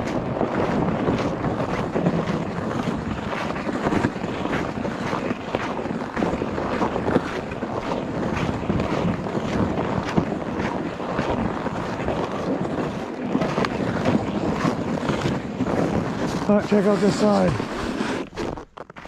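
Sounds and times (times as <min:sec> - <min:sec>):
footsteps on snow: 0:00.0 - 0:19.0
wind noise on microphone: 0:00.0 - 0:19.0.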